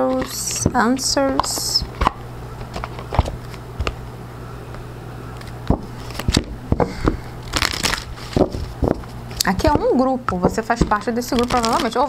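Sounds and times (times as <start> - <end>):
steady low hum: 0.0 - 12.0
cards tapping and clicking: 0.1 - 4.0, 5.4 - 12.0.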